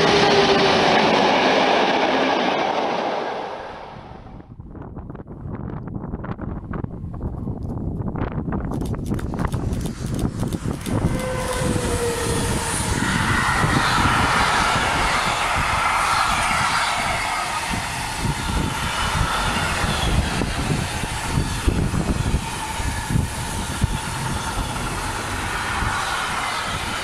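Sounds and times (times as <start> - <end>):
freight train rolling past: 0.0 - 4.6, 9.2 - 27.0.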